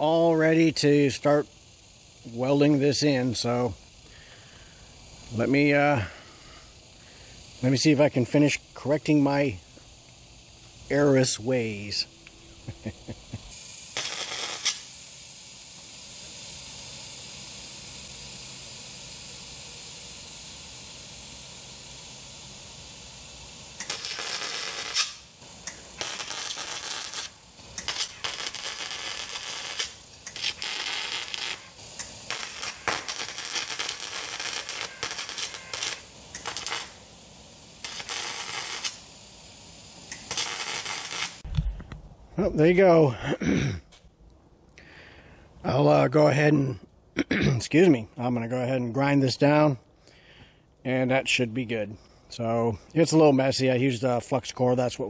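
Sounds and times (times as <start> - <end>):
welder arc crackling and hissing: 0.0 - 55.0.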